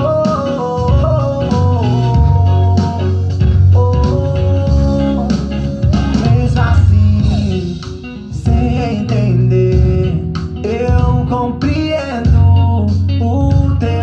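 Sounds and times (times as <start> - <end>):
bass guitar: 0.0 - 14.0
man singing: 0.0 - 14.0
plucked guitar: 0.0 - 14.0.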